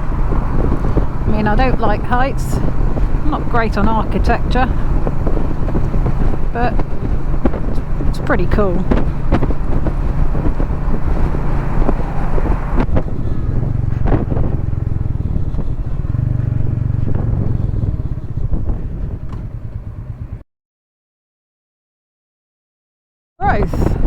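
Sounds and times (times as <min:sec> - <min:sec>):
motorcycle engine cruising: 0:00.0 - 0:20.4
wind and road noise: 0:00.0 - 0:20.4, 0:23.4 - 0:24.0.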